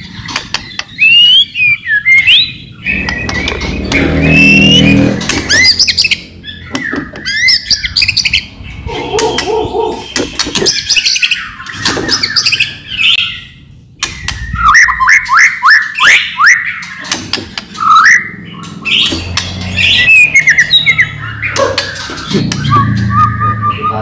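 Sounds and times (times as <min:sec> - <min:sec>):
bird singing whistles and chirps: 0:00.5 - 0:17.1, 0:17.8 - 0:19.2, 0:19.8 - 0:24.0.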